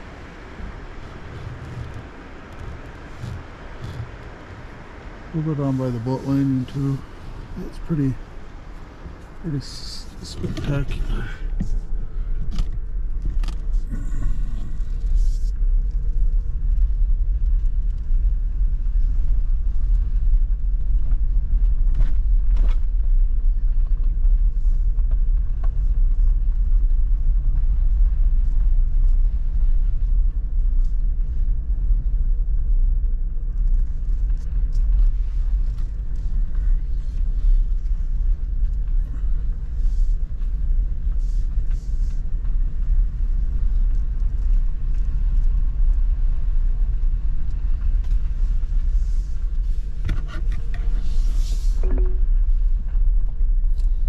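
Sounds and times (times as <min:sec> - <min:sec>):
tyre and road noise: 0:00.0 - 0:54.0.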